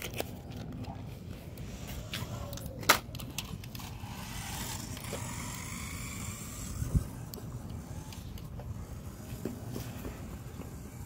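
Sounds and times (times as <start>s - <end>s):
toy car electric motor whining: 1.5s - 11.0s.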